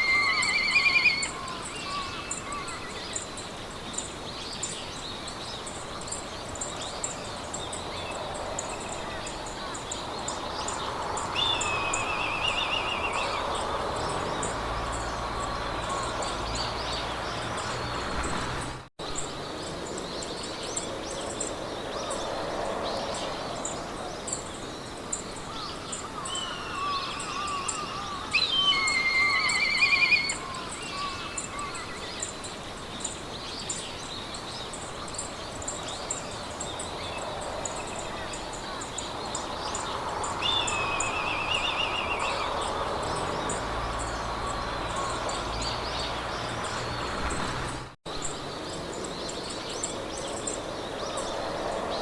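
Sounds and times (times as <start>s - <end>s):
soft wind: 0.0s - 52.0s
songbirds singing: 0.0s - 52.0s.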